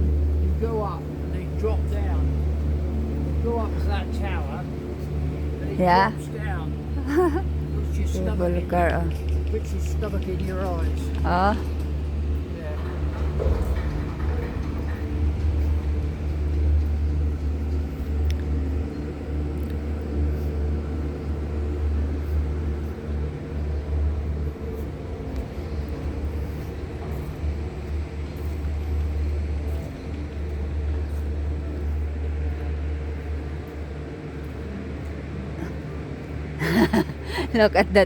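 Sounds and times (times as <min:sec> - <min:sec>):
cable car cabin rumble: 0:00.0 - 0:38.0.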